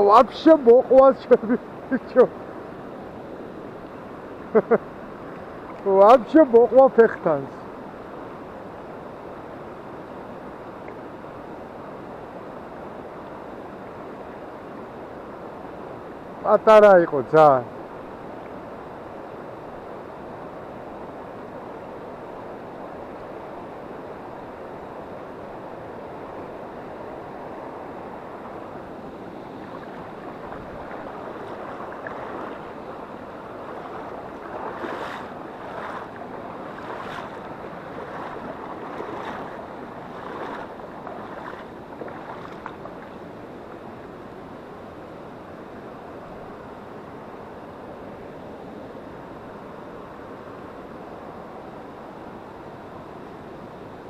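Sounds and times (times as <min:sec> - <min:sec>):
river rushing over stones: 0:00.0 - 0:47.7.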